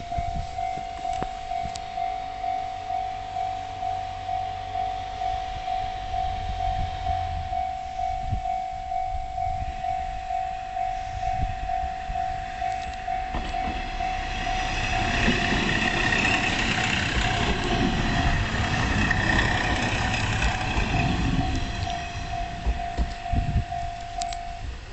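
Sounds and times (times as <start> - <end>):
level crossing alarm ringing: 0.0 - 24.7
train passing: 0.0 - 24.9.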